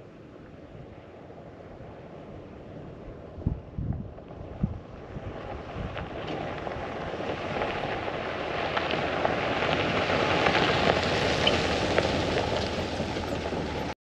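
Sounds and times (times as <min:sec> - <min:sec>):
gravel crackling under tyres: 0:00.0 - 0:14.0
road noise rushing: 0:00.0 - 0:14.0.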